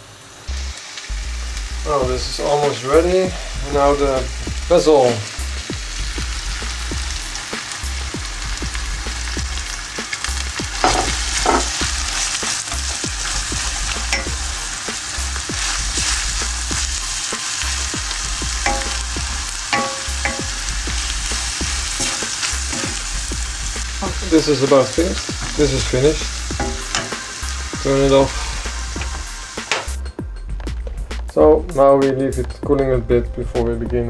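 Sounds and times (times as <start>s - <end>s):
meat and onions sizzling in a pan: 0.0s - 30.2s.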